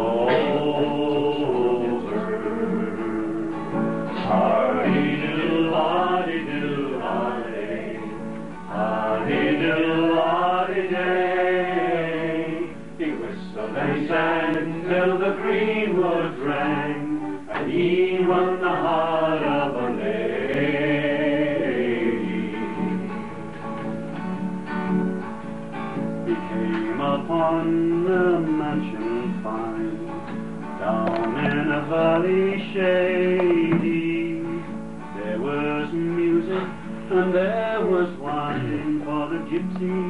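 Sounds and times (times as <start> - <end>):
two men singing: 0.0 - 23.3, 26.3 - 30.2, 30.8 - 40.0.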